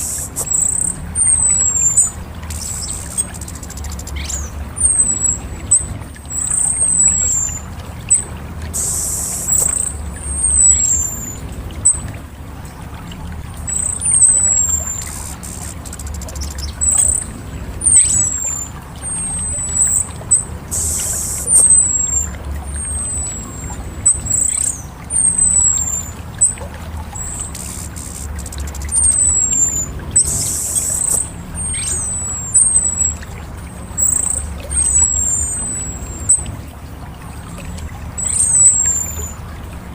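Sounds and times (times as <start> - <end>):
thrush calling high whistles: 0.0 - 36.6, 37.3 - 39.6
steady low rumble: 0.0 - 39.9.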